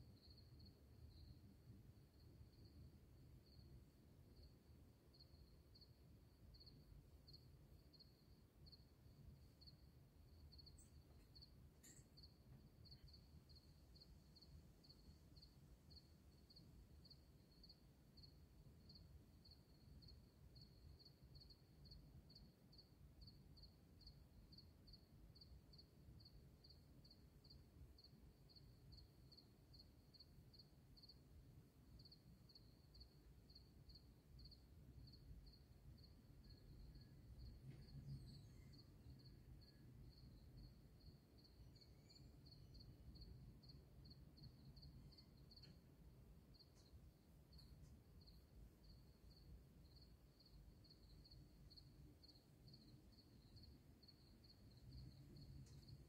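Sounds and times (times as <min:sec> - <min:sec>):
faint insect chirping: 0:00.0 - 0:56.0.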